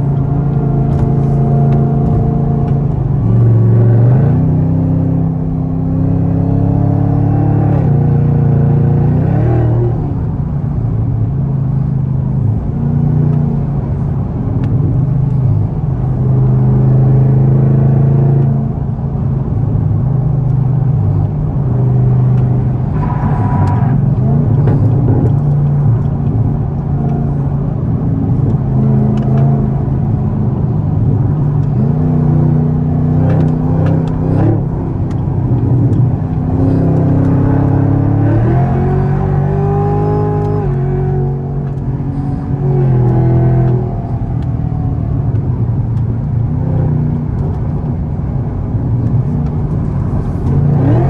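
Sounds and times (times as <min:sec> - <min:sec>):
car engine running hard: 0:00.0 - 0:51.0.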